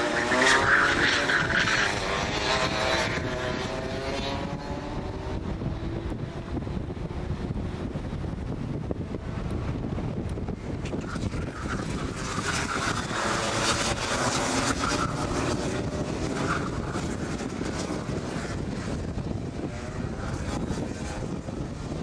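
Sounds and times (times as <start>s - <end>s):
kart engines racing past: 0.0s - 8.1s, 8.7s - 22.0s
wind buffeting microphone: 0.0s - 22.0s.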